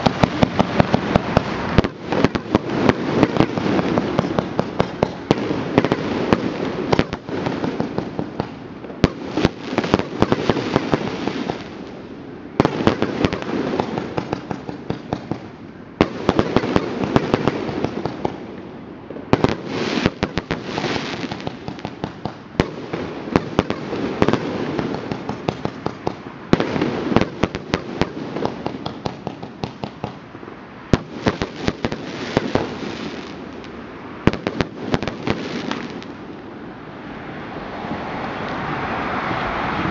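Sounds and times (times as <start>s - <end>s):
fireworks crackling: 0.0s - 18.5s, 19.2s - 30.3s, 30.9s - 36.4s
fireworks sharp bangs: 0.0s - 36.4s.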